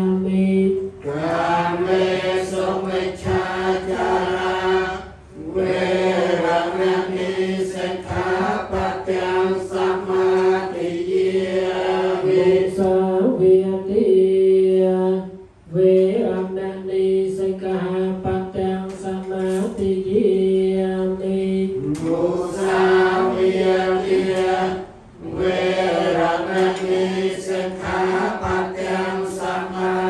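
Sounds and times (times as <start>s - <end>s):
group chanting in unison: 0.0s - 15.3s, 20.4s - 30.0s.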